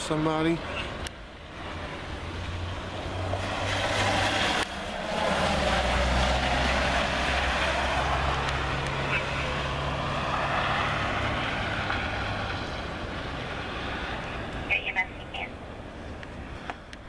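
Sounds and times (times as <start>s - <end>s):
car engine hum: 0.2s - 17.0s.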